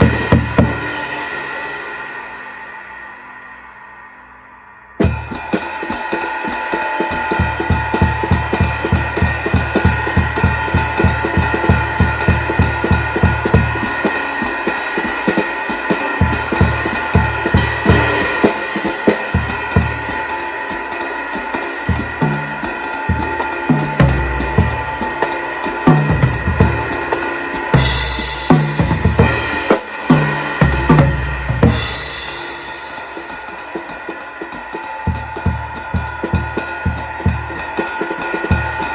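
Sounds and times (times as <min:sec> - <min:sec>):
ringing cymbals: 0:00.0 - 0:38.9.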